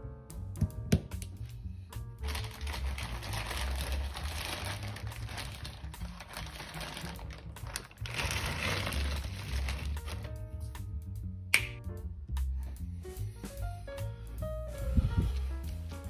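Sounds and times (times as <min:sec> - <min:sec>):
background music with pulsing bass: 0:00.0 - 0:16.0.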